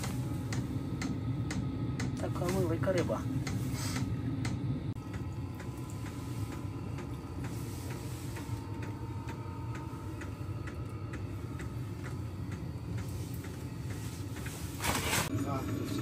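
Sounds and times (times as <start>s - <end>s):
heater fuel pump clicking: 0.0s - 15.3s
heater low hum: 0.0s - 16.0s.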